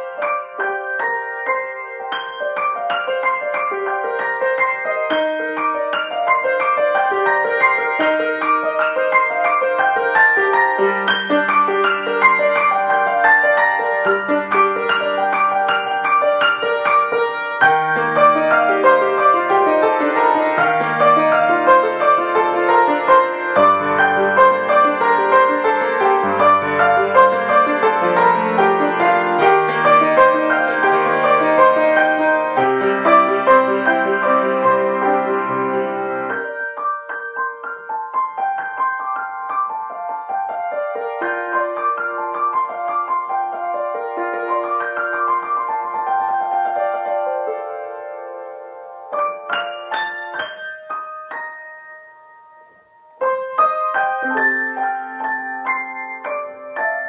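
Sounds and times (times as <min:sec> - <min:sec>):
solo grand piano piece: 0:00.0 - 0:57.0.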